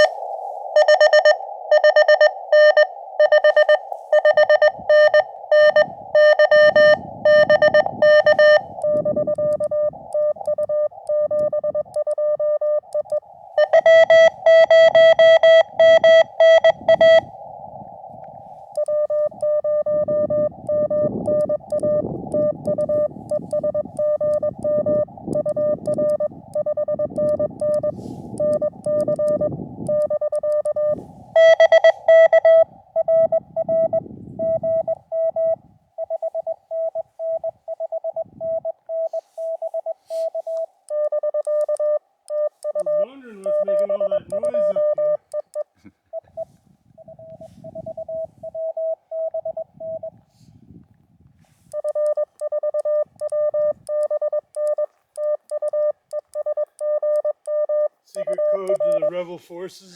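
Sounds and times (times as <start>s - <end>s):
loud morse code tones: 0.0s - 17.3s, 18.6s - 50.2s, 51.6s - 59.4s
quieter lower morse code tone: 0.0s - 17.6s, 18.5s - 50.4s, 51.4s - 59.5s
receiver hiss: 0.0s - 33.0s, 38.6s - 48.8s, 51.4s - 59.9s.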